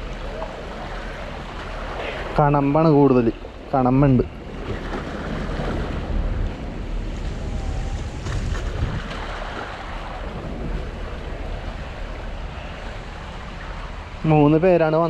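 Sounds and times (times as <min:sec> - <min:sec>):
water and surf rushing: 0:00.0 - 0:15.0
wind buffeting microphone: 0:00.0 - 0:15.0.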